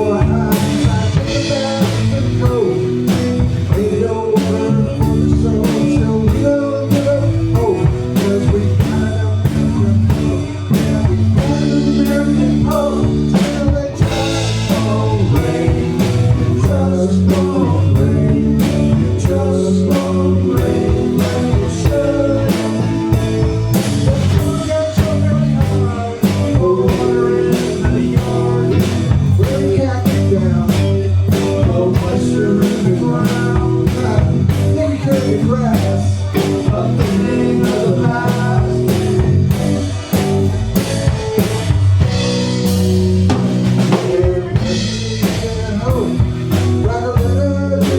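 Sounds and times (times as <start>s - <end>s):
blues-rock band playing: 0.0s - 47.9s.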